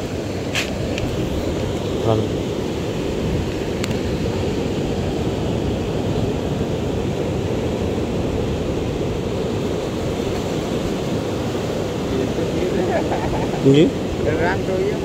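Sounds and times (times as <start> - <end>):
sea surf: 0.0 - 15.0
wind: 0.0 - 15.0.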